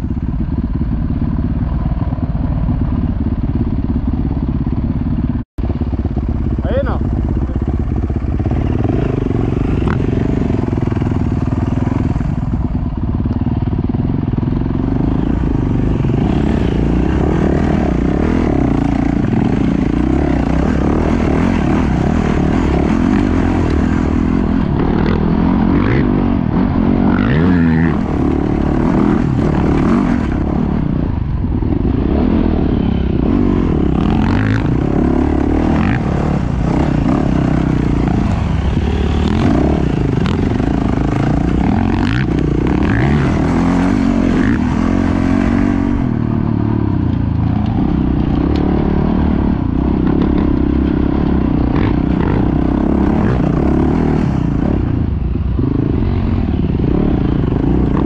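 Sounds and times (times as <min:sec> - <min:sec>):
dirt bike engine revving: 0:05.7 - 0:58.0.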